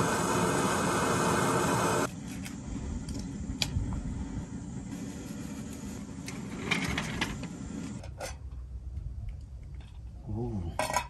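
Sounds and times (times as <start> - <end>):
steady low hiss: 0.0 - 10.8.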